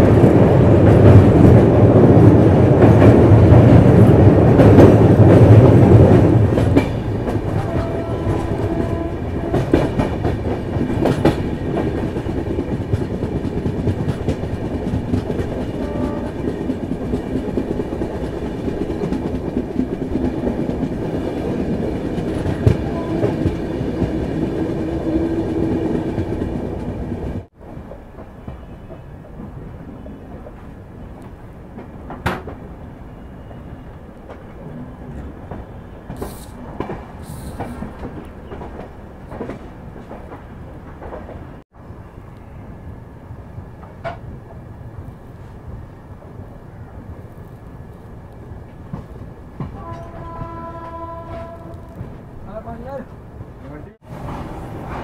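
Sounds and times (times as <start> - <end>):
train rumbling at speed: 0.0 - 55.0.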